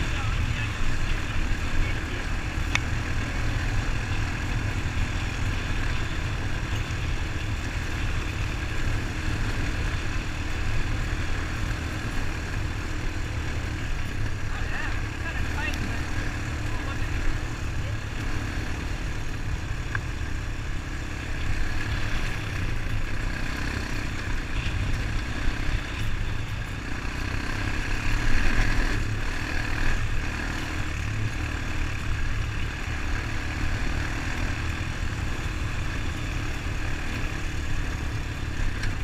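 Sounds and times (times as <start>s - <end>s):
engine running: 0.0s - 39.0s.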